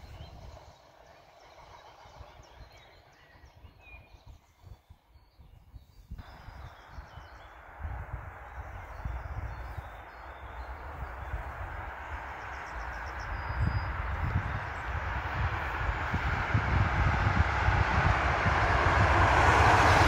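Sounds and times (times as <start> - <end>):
faint rail vehicle rumble: 0.0 - 20.0
wind buffeting microphone: 0.0 - 20.0.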